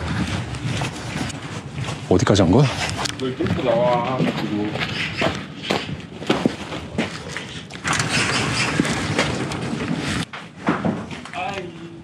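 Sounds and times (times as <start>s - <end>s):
rustling and scuffling: 0.0s - 12.0s.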